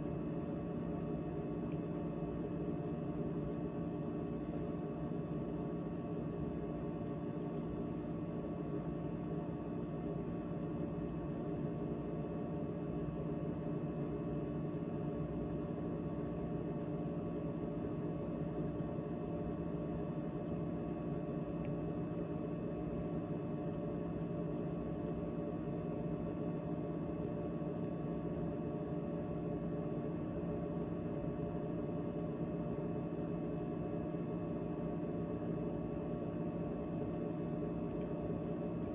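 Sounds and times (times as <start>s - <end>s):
refrigerator hum: 0.0s - 38.9s.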